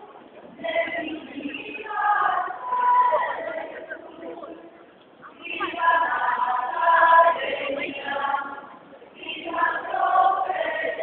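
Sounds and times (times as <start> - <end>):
choir singing held notes: 0.5 - 4.5, 5.4 - 11.0.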